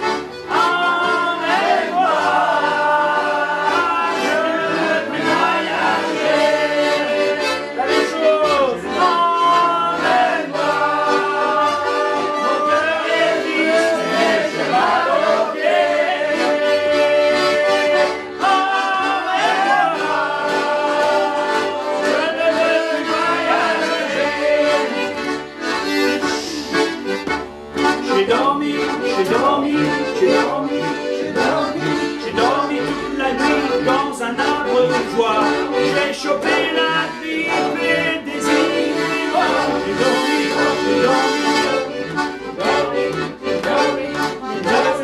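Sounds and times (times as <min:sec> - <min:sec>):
accordion playing folk melody: 0:00.0 - 0:45.0.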